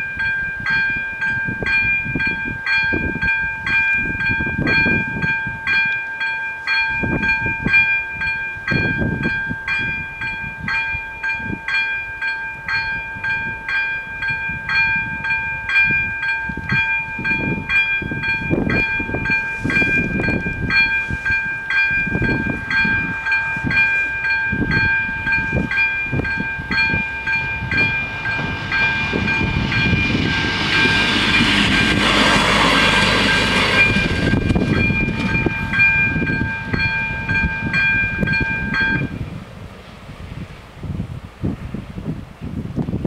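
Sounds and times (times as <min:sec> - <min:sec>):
train passing: 0:00.0 - 0:42.8.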